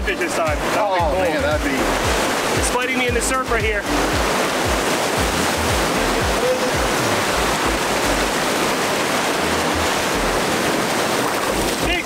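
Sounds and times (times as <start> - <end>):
background music with low beat: 0.0 - 10.7
ocean surf roaring: 0.0 - 12.0.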